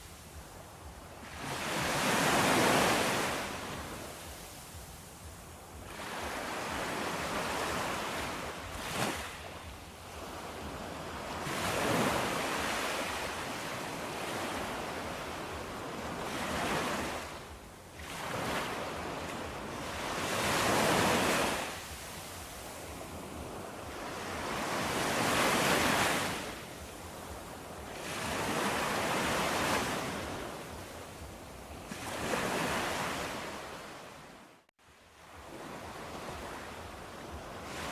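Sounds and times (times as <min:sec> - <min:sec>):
sea waves washing onto shore: 0:00.0 - 0:34.1.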